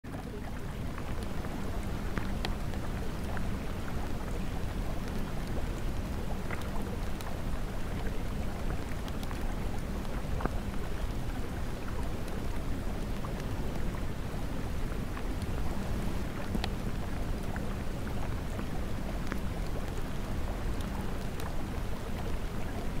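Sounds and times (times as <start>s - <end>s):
rainfall hiss: 0.2s - 23.0s.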